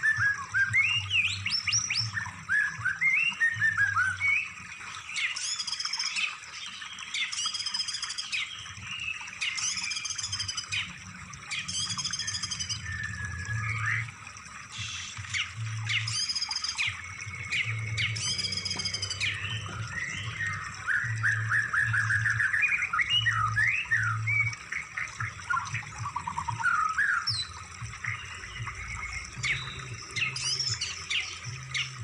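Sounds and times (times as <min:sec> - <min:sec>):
songbird calls and trills: 0:00.0 - 0:32.0.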